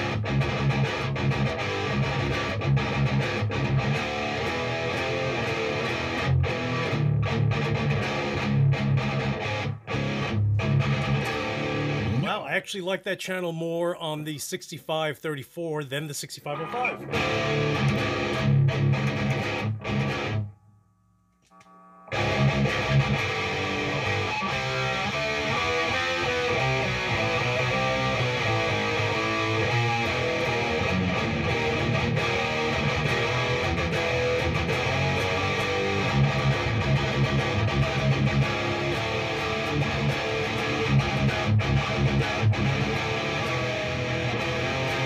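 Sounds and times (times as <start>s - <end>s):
distorted electric guitar riffs: 0.0s - 12.9s, 15.9s - 20.8s, 21.4s - 45.0s.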